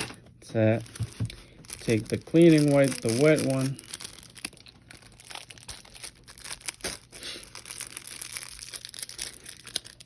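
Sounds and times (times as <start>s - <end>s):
sachet crinkling and tearing: 0.8s - 10.0s.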